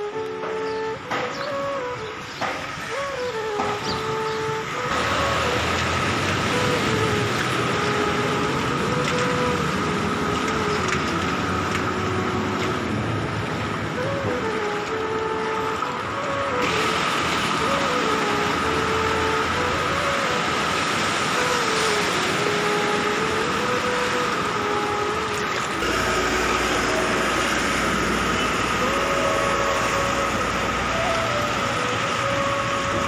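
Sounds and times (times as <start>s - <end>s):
faint stepping tune: 0.0s - 27.9s
floodwater rushing and splashing: 0.0s - 33.0s.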